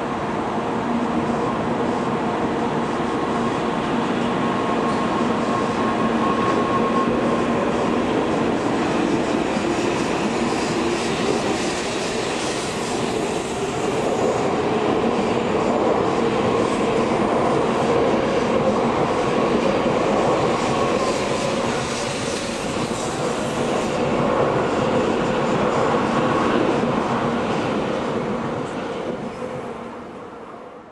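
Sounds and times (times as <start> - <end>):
train rushing past: 0.0 - 30.5.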